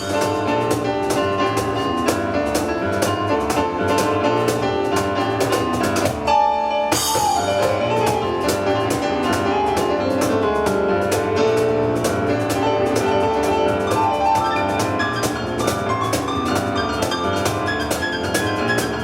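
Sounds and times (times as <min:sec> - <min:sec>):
piano and percussion playing: 0:00.0 - 0:19.0.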